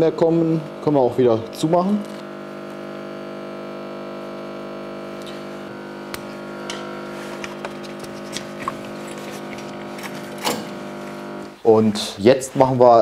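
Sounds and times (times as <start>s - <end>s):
electric pump humming: 0.0s - 12.9s.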